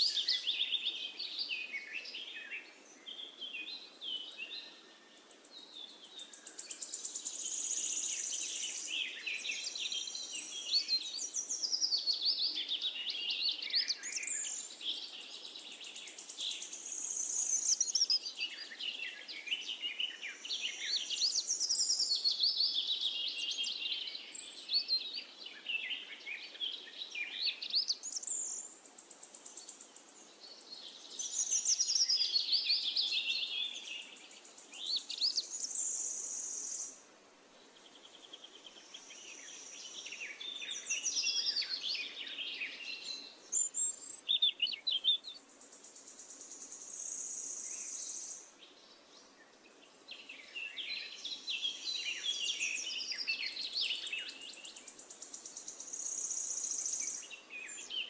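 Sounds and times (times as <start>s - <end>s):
birds chirping and singing: 0.0s - 36.9s, 37.9s - 58.0s.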